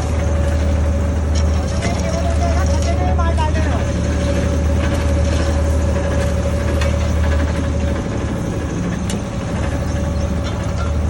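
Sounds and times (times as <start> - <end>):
machine engine drone: 0.0 - 11.0
steady whine: 0.0 - 11.0.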